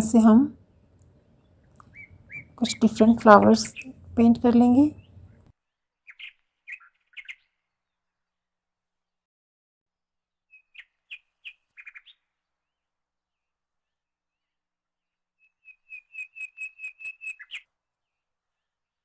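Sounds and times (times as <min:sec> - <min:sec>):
faint bird chirps: 0:00.8 - 0:08.1, 0:10.5 - 0:19.0.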